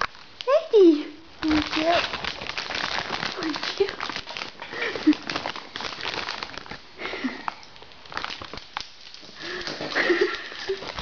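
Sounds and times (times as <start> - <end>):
chip bag crackling: 1.4 - 11.0.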